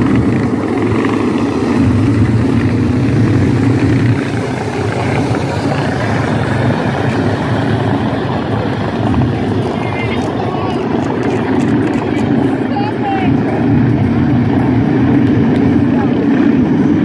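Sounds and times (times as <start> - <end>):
race car engines roaring past: 0.0 - 17.0.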